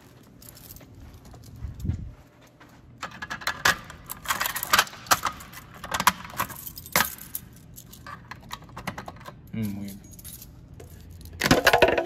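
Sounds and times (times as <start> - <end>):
keys jangling: 0.0 - 2.1, 3.0 - 11.5.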